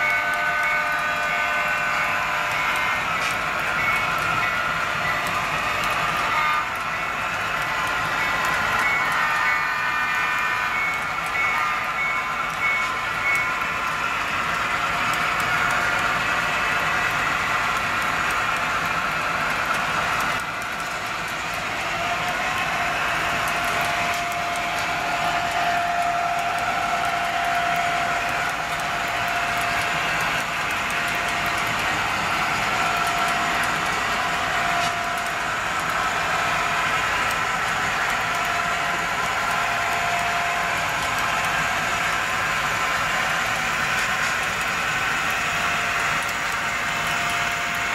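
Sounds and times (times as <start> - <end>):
model train whirring on track: 0.0 - 47.9
wheels rolling on rails: 0.0 - 47.9.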